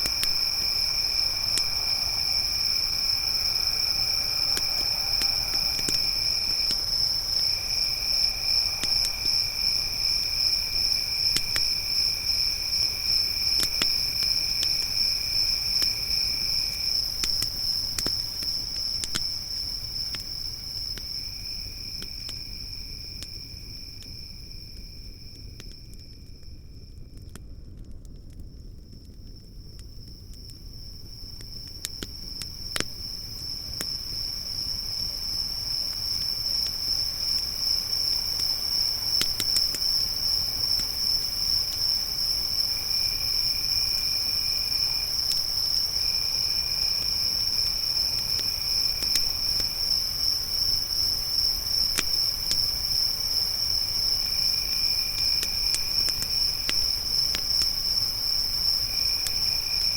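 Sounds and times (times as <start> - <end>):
lower-pitched insect trill: 0.0 - 27.0, 30.2 - 59.9
crickets chirping: 0.0 - 27.4, 28.2 - 59.9
campfire crackling with pops: 0.0 - 46.2, 46.8 - 59.9.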